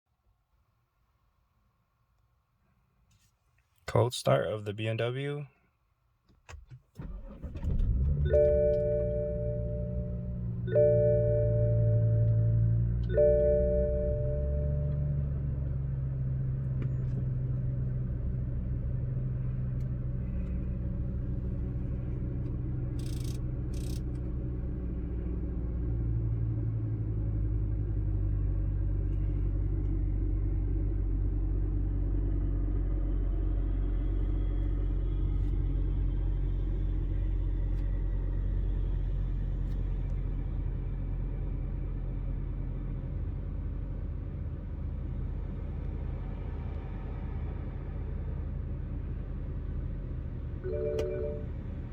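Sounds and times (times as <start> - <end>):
car engine running: 7.0 - 51.9.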